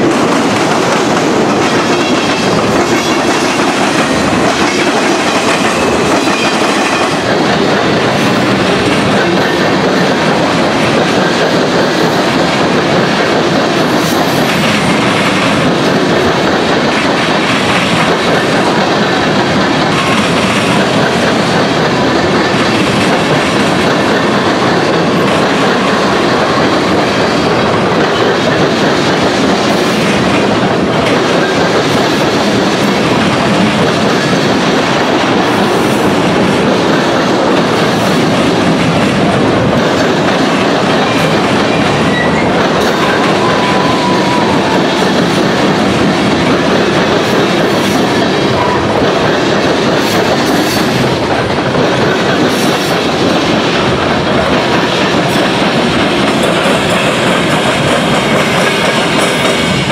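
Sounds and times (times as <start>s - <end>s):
train wheels on rail: 0.0s - 59.9s.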